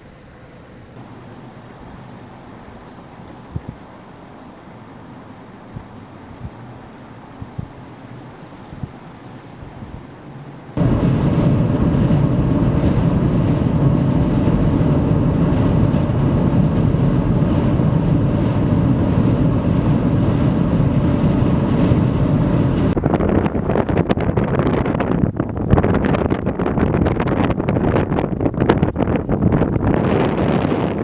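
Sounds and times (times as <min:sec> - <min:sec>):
strong wind on microphone: 0:01.0 - 0:31.0.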